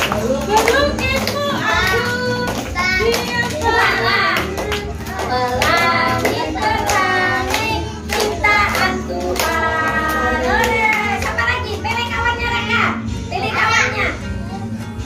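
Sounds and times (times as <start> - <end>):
children clapping along: 0.0 - 12.2.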